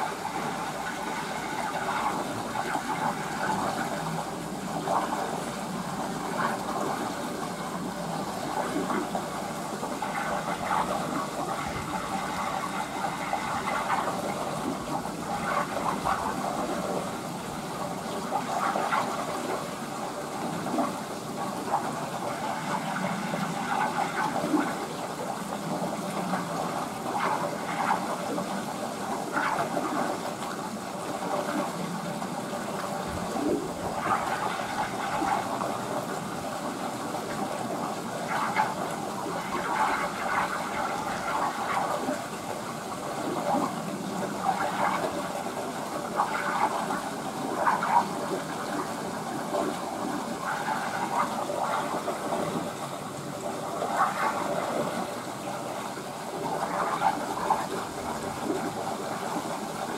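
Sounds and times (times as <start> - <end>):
small water splashes: 0.0 - 59.9
water rushing and gurgling: 0.0 - 59.9.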